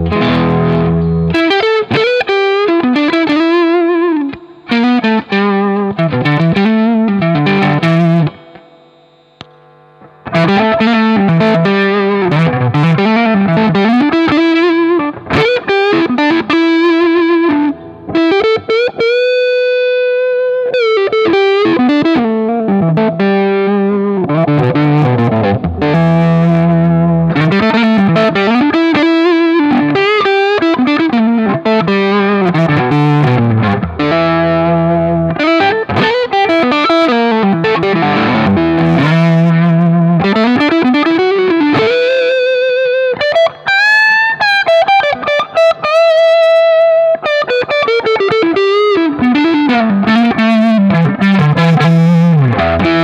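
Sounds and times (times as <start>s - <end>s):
overdriven electric guitar lead: 0.0s - 53.0s.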